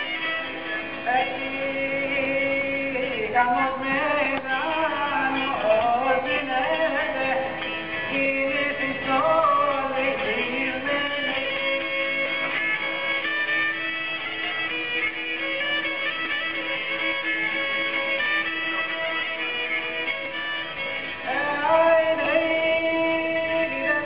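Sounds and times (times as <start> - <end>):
bowed string folk melody: 0.0 - 24.0.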